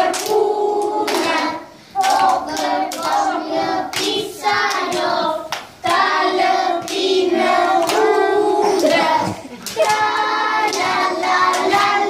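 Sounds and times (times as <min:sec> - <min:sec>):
children singing: 0:00.0 - 0:12.0
hands clapping: 0:00.0 - 0:12.0.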